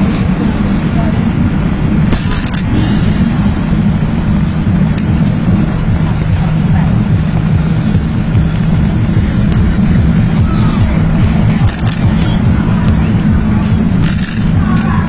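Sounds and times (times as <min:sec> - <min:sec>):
bicycle riding rumble: 0:00.0 - 0:15.0
car traffic: 0:00.0 - 0:15.0.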